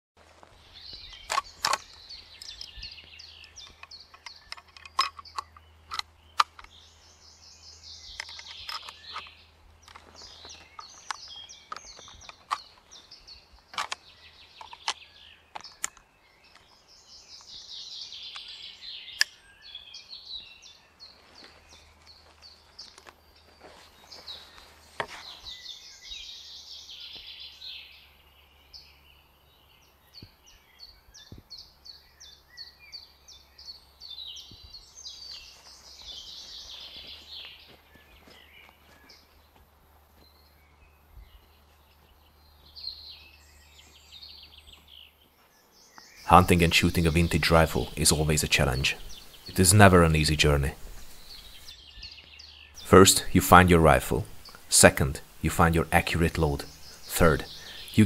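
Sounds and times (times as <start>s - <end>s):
songbird singing: 0.2s - 58.0s.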